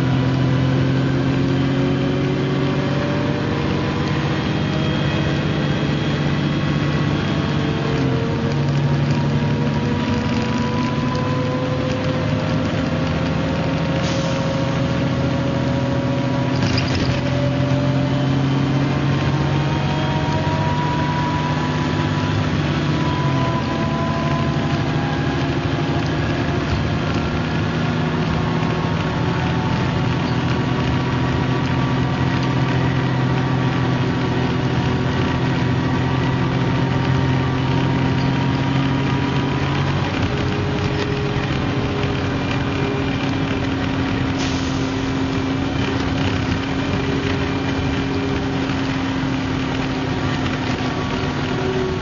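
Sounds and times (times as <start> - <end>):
bus engine droning: 0.0 - 52.0.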